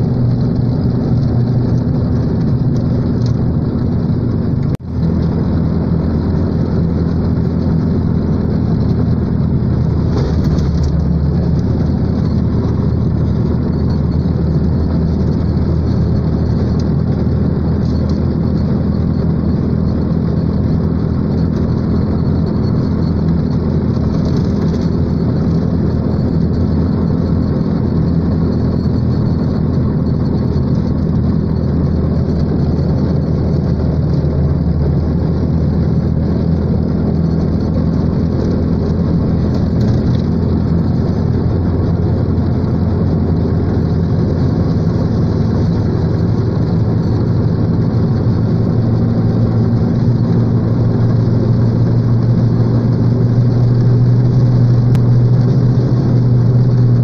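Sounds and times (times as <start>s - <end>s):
road and tyre noise: 0.0s - 57.0s
vehicle engine running: 0.0s - 57.0s.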